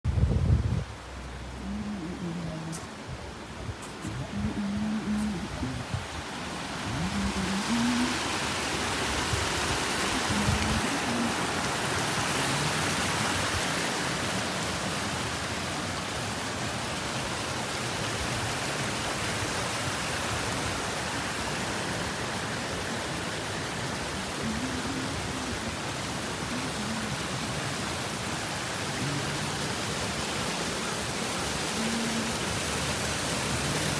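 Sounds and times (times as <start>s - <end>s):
mountain stream rushing over rocks: 0.1s - 33.9s.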